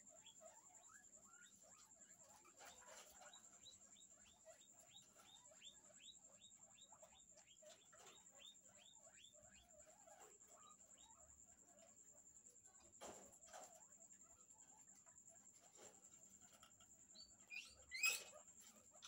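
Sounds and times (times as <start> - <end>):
guinea pigs squeaking: 0.0 - 19.0.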